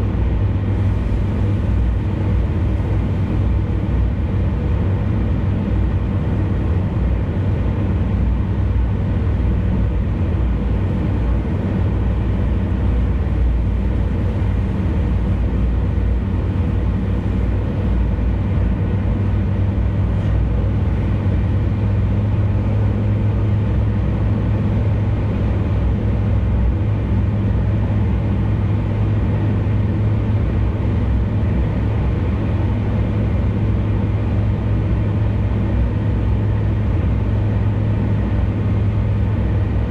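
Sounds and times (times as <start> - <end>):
car cruising road rumble: 0.0 - 39.9.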